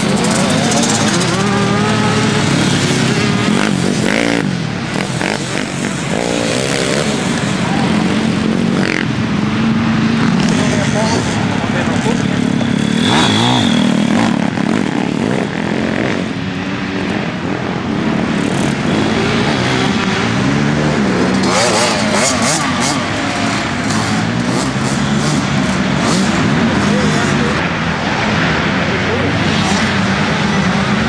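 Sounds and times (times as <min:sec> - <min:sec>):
pit bike engine revving: 0:00.0 - 0:27.6.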